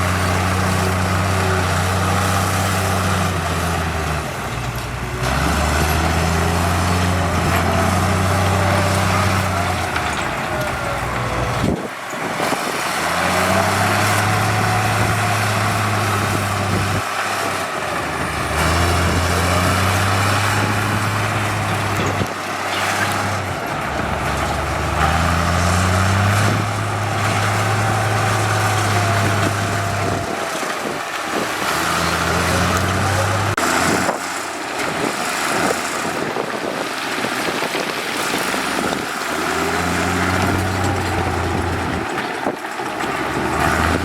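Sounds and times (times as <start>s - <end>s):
heavy diesel machinery droning: 0.0s - 44.0s.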